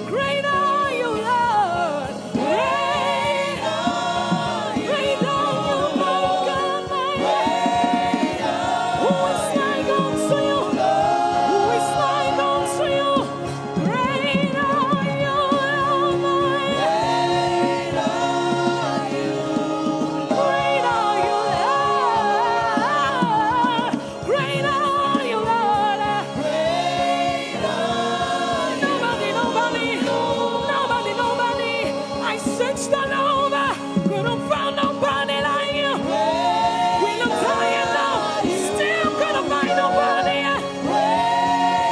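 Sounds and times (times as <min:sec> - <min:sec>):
gospel singers: 0:00.0 - 0:41.9
keyboard and band accompaniment: 0:00.0 - 0:41.9.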